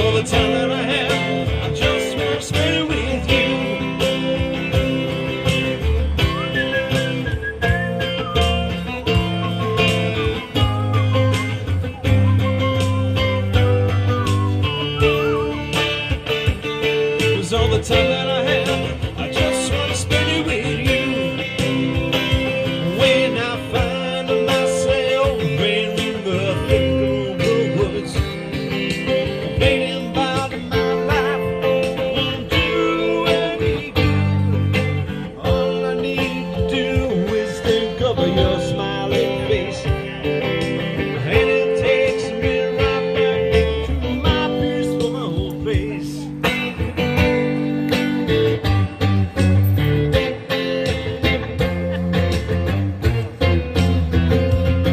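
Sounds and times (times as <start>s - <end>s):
country-blues song on guitar: 0.0s - 54.9s.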